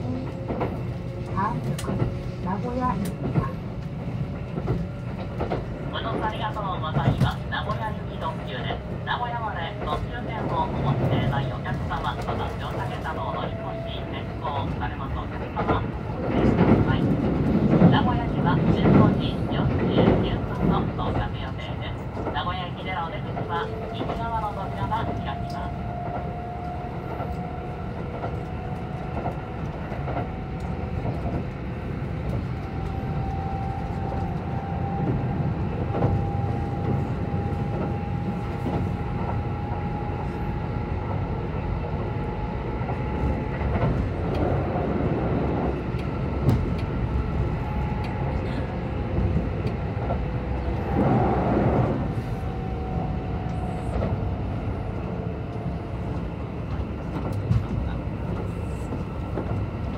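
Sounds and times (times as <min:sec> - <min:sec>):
rumble of train wheels on rail: 0:00.0 - 0:59.9
rail joint clicks: 0:00.1 - 0:59.9.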